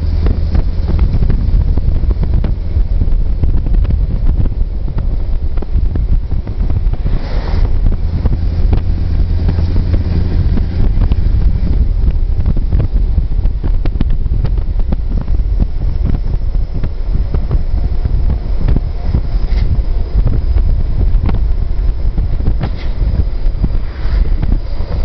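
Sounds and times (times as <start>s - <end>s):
truck engine rumbling: 0.0s - 25.0s
wind buffeting microphone: 0.0s - 25.0s.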